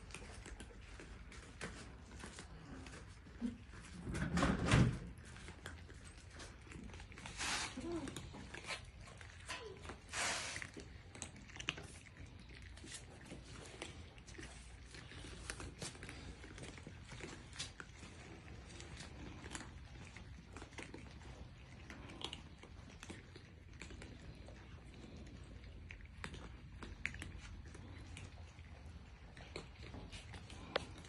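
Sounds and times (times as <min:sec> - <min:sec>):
cats chewing dry kibble: 0:00.0 - 0:31.0.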